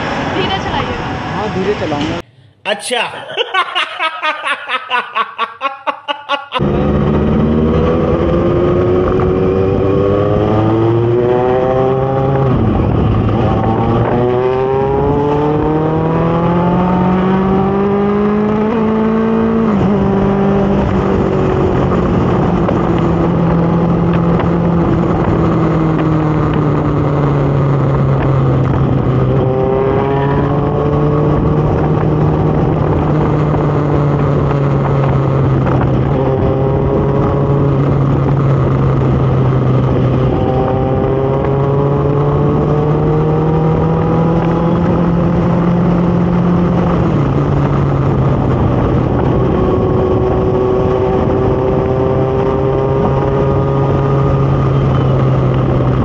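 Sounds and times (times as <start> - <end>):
motorcycle accelerating: 0.0 - 2.5, 6.3 - 56.0.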